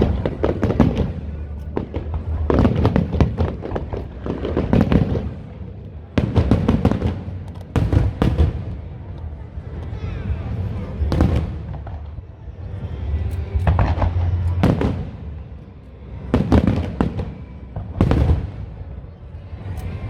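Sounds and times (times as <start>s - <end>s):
fireworks bangs and crackles: 0.0s - 9.8s, 10.4s - 12.6s, 13.6s - 19.2s.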